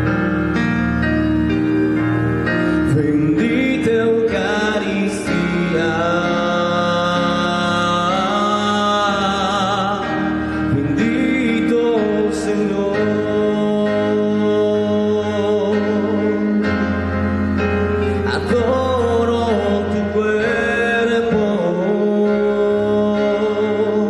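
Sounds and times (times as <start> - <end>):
instrumental accompaniment: 0.0 - 24.0
person singing a hymn: 1.9 - 24.0.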